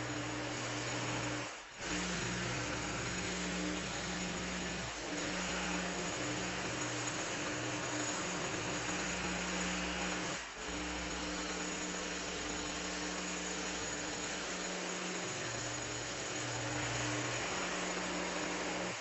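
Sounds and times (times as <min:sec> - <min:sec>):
small engine running with hiss: 0:00.0 - 0:19.0.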